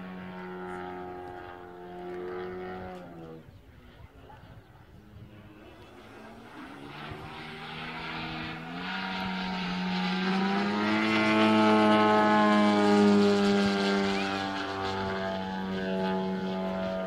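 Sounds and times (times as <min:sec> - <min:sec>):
model plane engine droning: 0:00.0 - 0:17.0.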